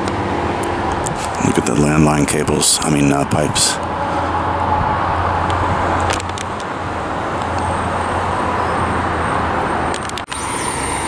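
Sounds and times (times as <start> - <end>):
tyre and street noise: 0.0 - 11.0
vehicle engine hum: 0.0 - 11.0.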